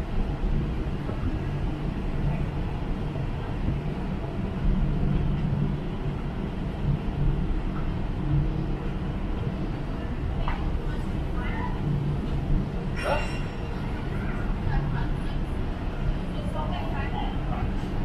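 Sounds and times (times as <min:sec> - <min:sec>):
ship engines rumbling: 0:00.0 - 0:18.0.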